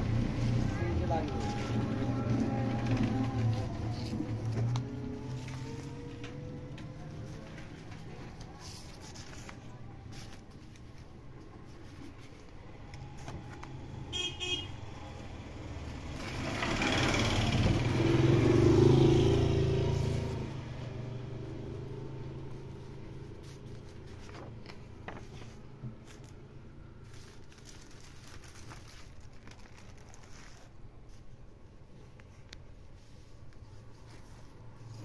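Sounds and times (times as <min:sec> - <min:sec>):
motor vehicle passing: 0:00.0 - 0:10.7, 0:11.4 - 0:29.0
road traffic hum: 0:00.0 - 0:35.0.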